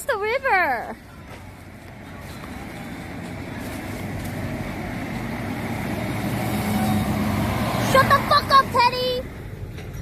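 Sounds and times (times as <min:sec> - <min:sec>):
vehicle approaching: 0:00.0 - 0:10.0.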